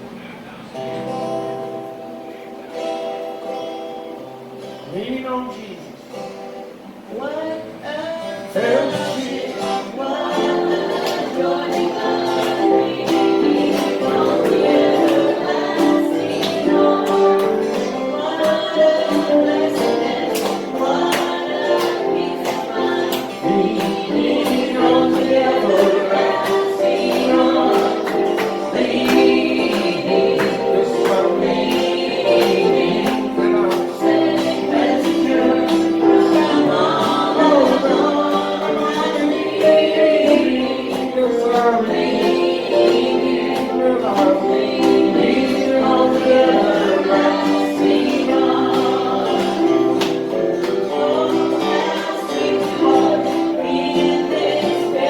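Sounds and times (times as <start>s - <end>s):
group singing gospel song: 7.8s - 55.0s.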